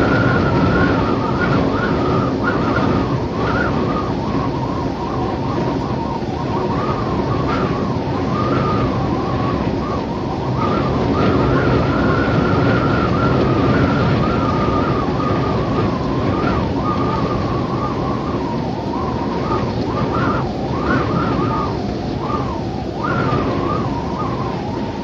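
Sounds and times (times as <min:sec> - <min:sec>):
rushing wind: 0:00.0 - 0:25.0
wind whistling: 0:00.0 - 0:25.0.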